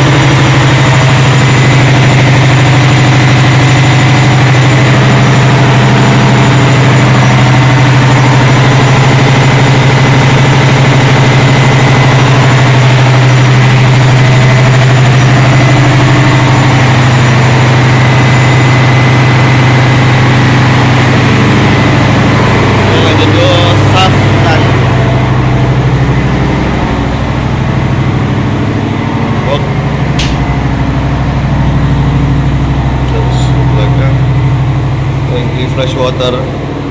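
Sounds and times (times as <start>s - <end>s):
diesel machinery drone: 0.0s - 36.9s.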